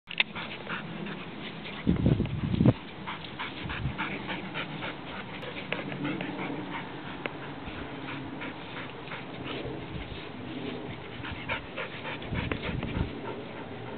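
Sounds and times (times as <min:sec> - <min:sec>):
paws scratching sand: 0:00.1 - 0:13.9
dog panting: 0:00.2 - 0:13.9.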